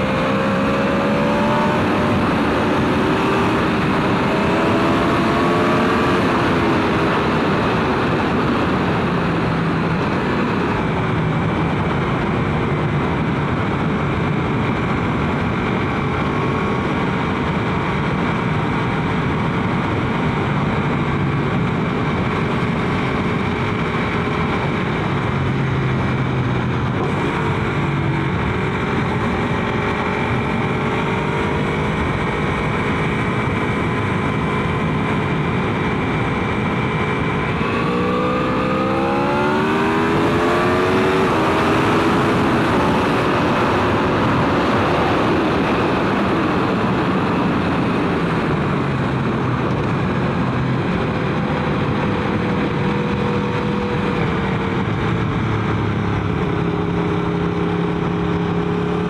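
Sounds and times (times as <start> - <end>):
motorcycle engine: 0.0 - 59.0
wind noise: 0.0 - 59.0.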